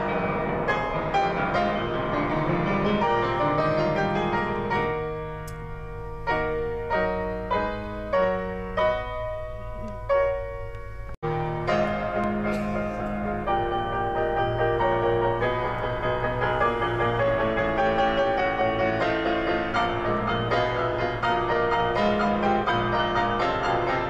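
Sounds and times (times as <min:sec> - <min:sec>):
grand piano playing: 0:00.0 - 0:24.0.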